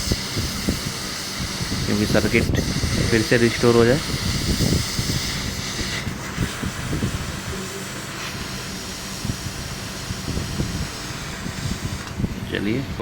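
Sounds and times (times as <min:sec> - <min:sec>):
hot air blower hissing: 0:00.0 - 0:13.0.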